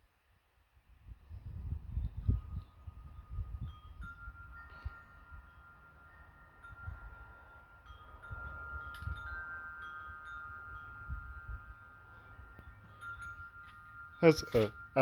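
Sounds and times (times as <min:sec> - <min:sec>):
soft chime-like ringing: 0:02.2 - 0:15.0.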